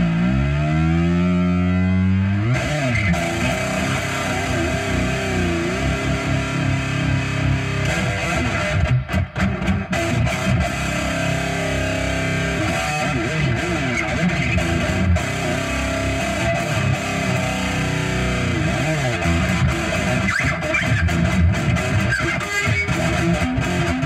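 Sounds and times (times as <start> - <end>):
electric guitar lead line: 0.0 - 24.0.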